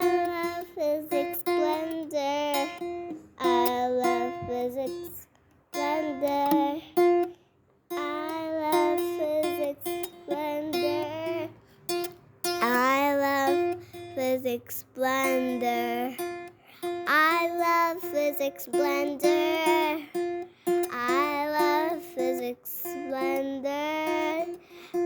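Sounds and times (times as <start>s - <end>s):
person singing: 0.0s - 7.3s, 7.9s - 11.6s, 12.5s - 25.0s
guitar: 0.0s - 25.0s.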